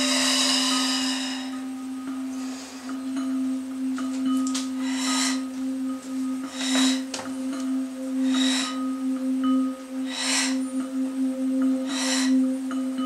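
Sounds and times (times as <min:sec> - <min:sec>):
airy hiss swells: 0:00.0 - 0:13.0
ambient drone music: 0:00.0 - 0:13.0.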